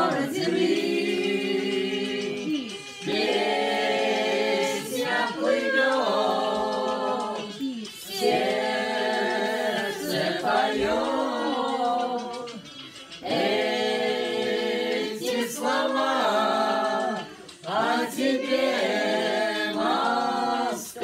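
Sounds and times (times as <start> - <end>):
group singing a cappella: 0.0 - 21.0.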